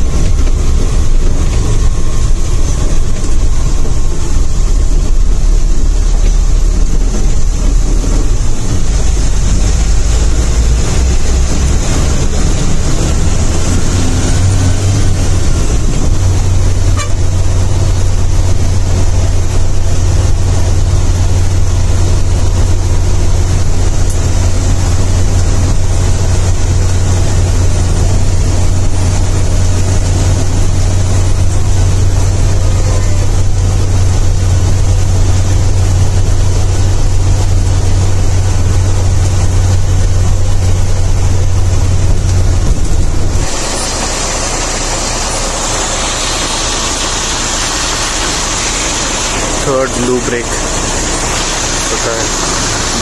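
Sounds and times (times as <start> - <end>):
bus engine drone: 0.0 - 53.0
road noise hiss: 0.0 - 53.0.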